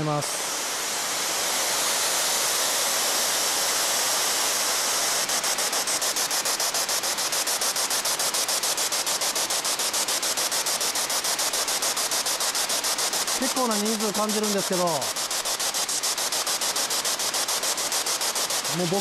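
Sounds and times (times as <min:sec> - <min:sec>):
white noise static chopping: 0:00.0 - 0:19.0.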